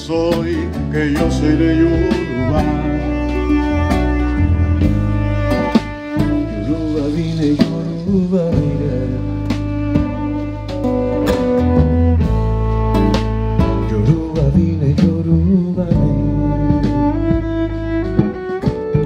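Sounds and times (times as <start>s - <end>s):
acoustic guitar: 0.0s - 19.0s
bass: 0.0s - 19.0s
bowed cello: 0.0s - 19.0s
drums: 0.0s - 19.0s.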